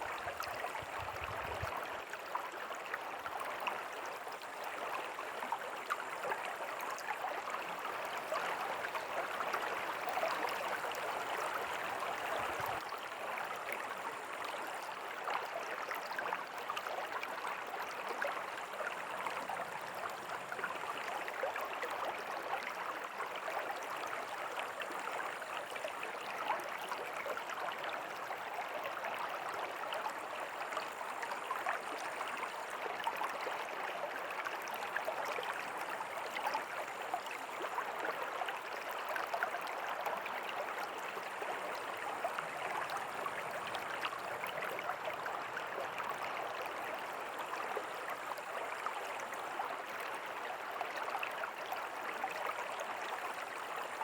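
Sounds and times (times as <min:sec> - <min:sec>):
river water rushing and babbling: 0:00.0 - 0:54.0.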